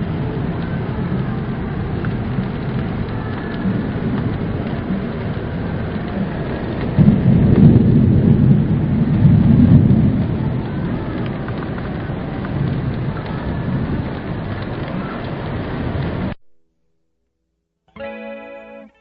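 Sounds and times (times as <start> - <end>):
low thunder rumble: 0.0 - 16.4
steady rain: 0.0 - 16.4.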